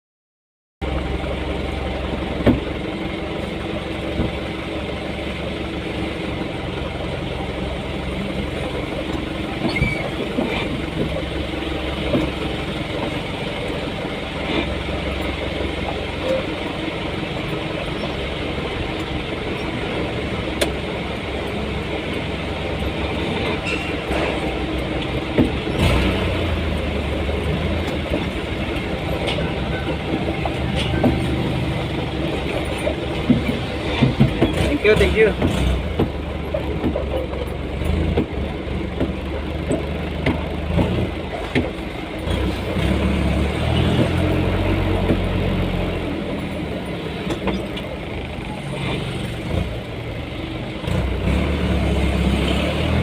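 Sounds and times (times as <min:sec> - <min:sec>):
vehicle engine and road noise: 0:00.8 - 0:53.0.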